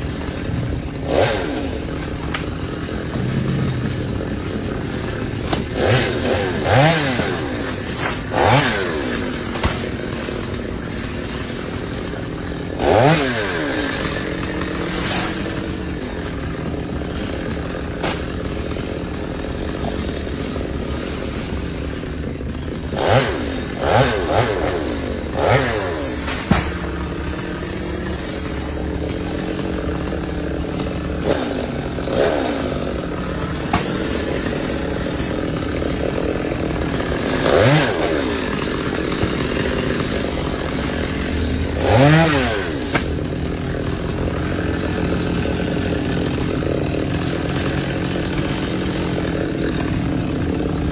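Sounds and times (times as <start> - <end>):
chainsaw running and revving: 0.0 - 50.9.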